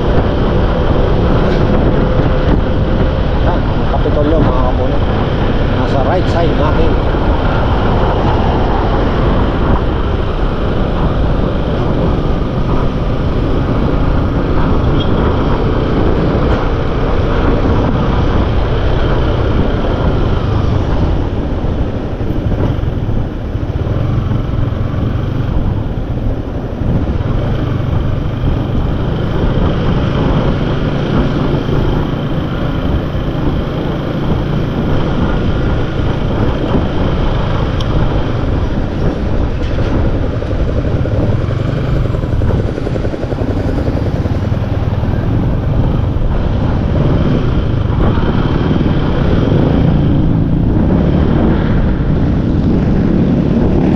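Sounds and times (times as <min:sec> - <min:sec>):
motorcycle engine: 0:00.0 - 0:53.9
wind and road noise: 0:00.0 - 0:53.9.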